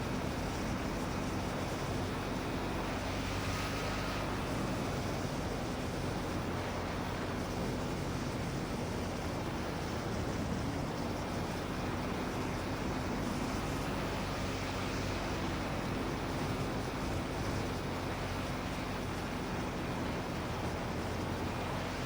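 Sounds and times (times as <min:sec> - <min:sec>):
aircraft engine humming: 0:00.0 - 0:22.0.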